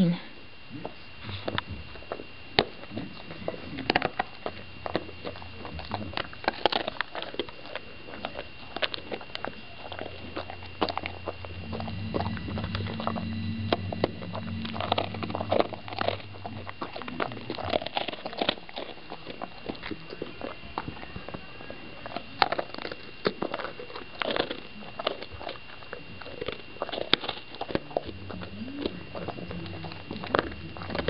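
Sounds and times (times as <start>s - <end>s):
low steady hum: 0.0s - 31.0s
dog crunching a biscuit: 1.2s - 13.1s, 15.6s - 31.0s.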